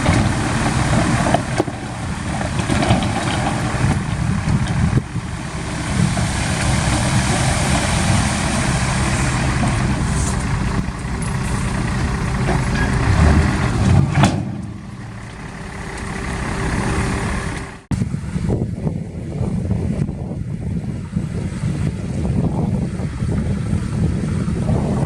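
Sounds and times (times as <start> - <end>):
wind noise on microphone: 0.0 - 14.5, 17.9 - 25.0
diesel engine running: 0.0 - 25.0.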